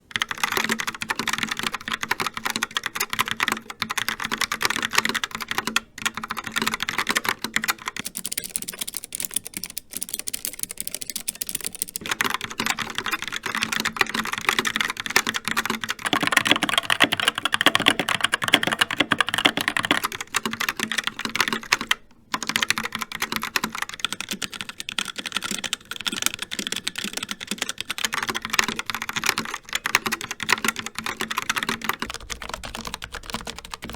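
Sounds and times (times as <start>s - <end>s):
fast typing on a keyboard: 0.0s - 33.9s.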